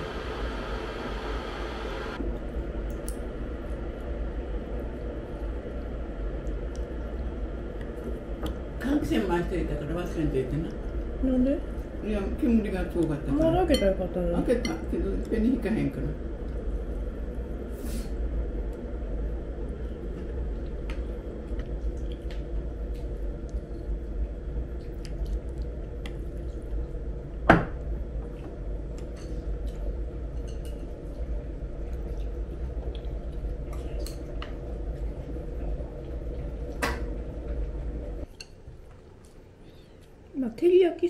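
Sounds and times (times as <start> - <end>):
ventilation fan humming: 0.0 - 41.0.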